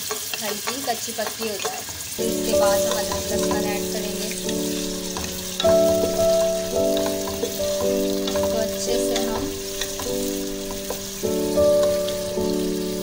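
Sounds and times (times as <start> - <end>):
onions sizzling in oil: 0.0 - 13.0
spoon stirring in pot: 0.0 - 13.0
keyboard chord music: 2.2 - 13.0.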